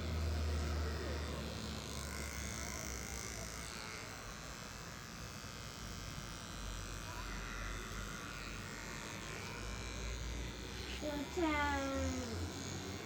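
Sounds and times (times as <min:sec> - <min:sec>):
hair clipper buzzing: 0:00.0 - 0:13.0.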